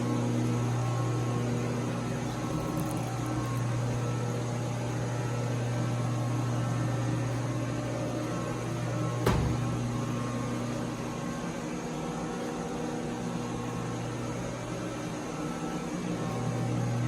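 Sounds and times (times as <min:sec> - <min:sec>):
electrical-mechanical hum: 0:00.0 - 0:17.0.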